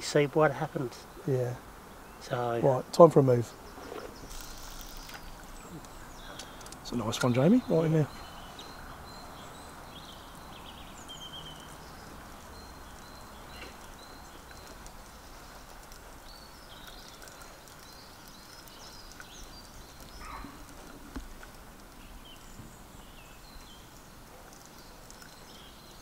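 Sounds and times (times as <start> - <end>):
low outdoor hiss: 0.0 - 26.0
small birds chirping: 0.0 - 26.0.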